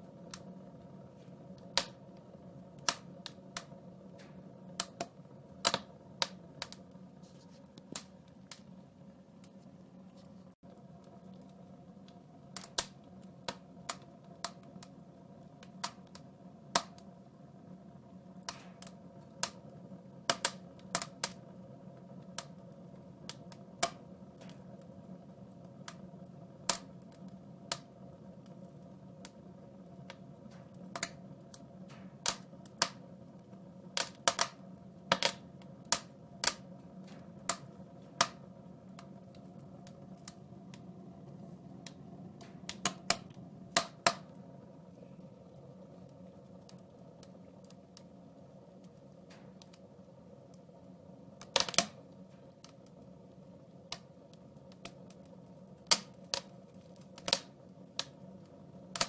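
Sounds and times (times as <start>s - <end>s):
steady low hum: 0.0s - 59.0s
wood fire crackling: 0.0s - 59.0s.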